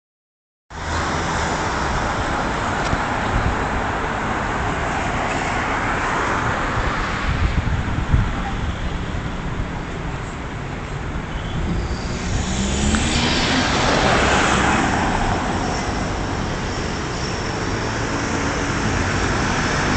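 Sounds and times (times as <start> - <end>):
road traffic passing: 0.7 - 19.9.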